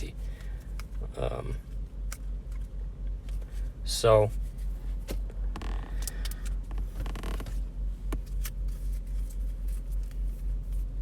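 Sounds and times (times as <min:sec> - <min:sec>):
low pulsing hum: 0:00.0 - 0:11.0.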